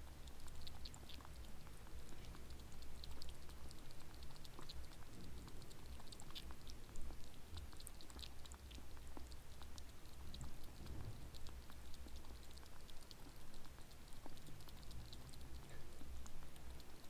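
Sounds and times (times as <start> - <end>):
kitten licking from a bowl: 0.0 - 17.0.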